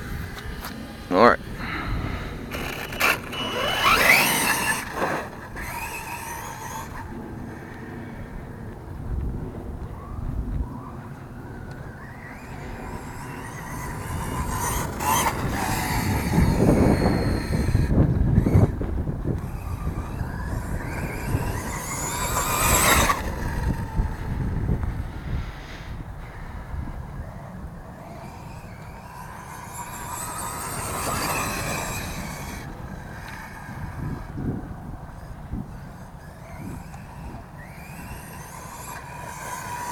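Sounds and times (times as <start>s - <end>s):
electric motor whining: 0.0s - 39.9s
tyre and driving noise: 0.0s - 39.9s.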